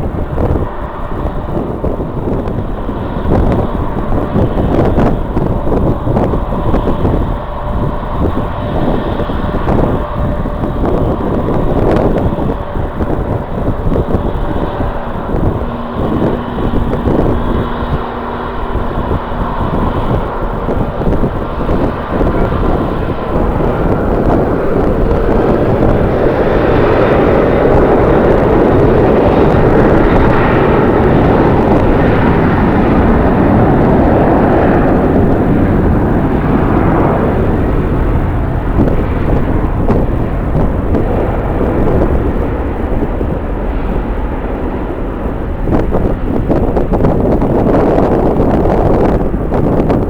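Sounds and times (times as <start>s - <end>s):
jet airliner passing: 0.0s - 50.0s
wind buffeting microphone: 0.0s - 50.0s.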